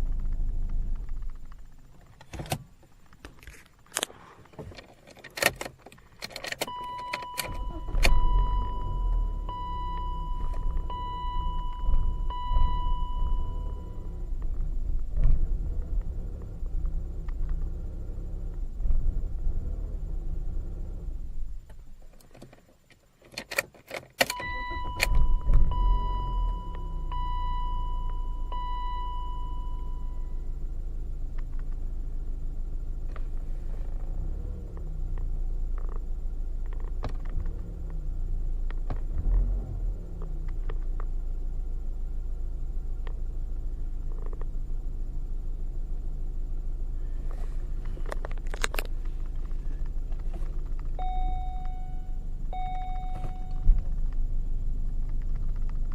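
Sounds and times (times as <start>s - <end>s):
car engine restarting and idling: 0.0s - 22.8s, 24.2s - 55.9s.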